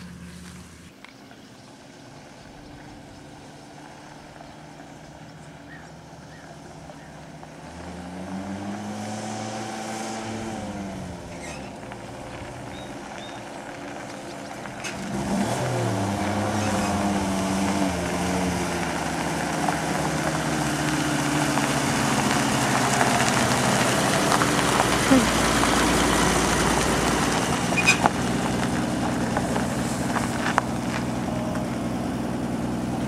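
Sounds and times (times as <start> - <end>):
truck engine driving on gravel: 0.0 - 33.0.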